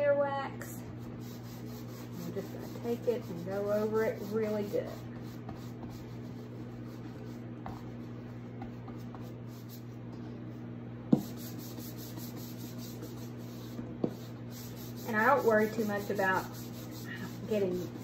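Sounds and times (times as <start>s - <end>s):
brush rubbing wax: 0.9s - 9.9s, 11.2s - 18.0s.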